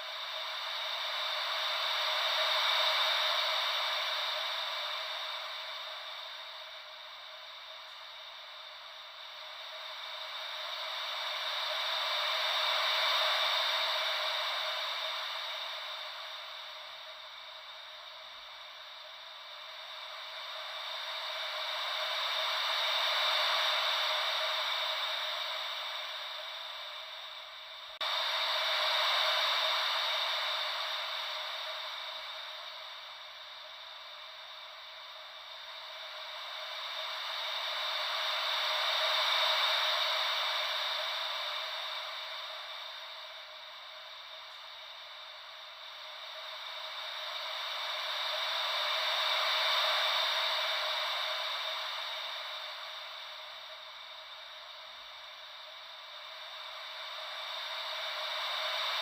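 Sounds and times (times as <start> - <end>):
hiss like ocean waves: 0.0 - 59.0.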